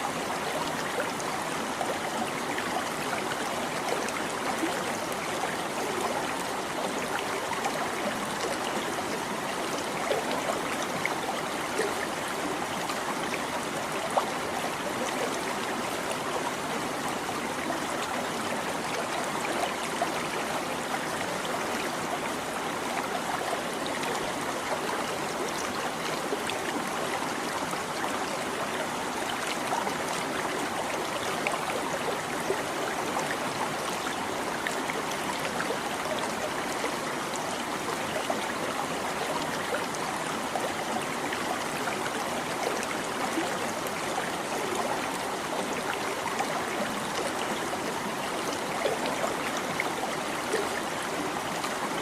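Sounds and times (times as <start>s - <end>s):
stream babbling over stones: 0.0s - 52.0s.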